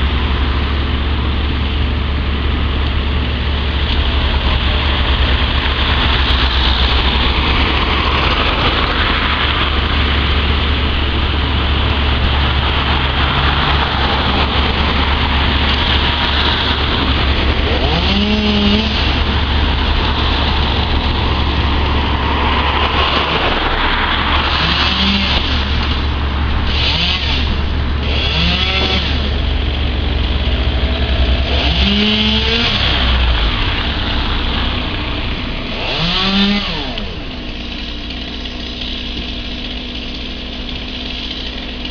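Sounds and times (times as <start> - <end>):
heavy engine running: 0.0 - 41.9
chainsaw revving: 2.8 - 41.9.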